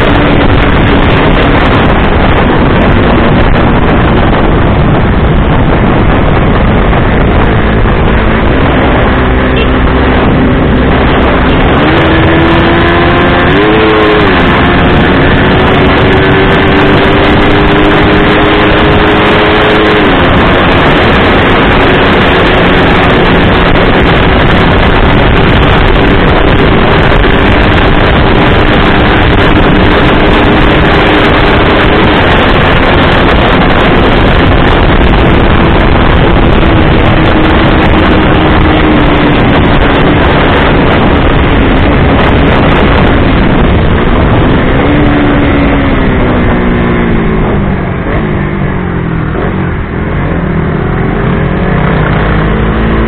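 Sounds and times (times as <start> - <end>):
motorcycle engine at high revs: 0.0 - 53.0
wind noise on microphone: 0.0 - 53.0.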